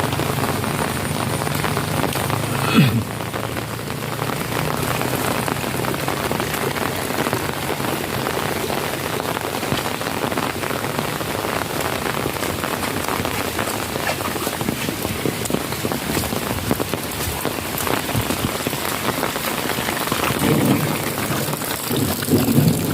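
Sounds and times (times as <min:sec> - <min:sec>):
rain pattering: 0:00.0 - 0:22.9.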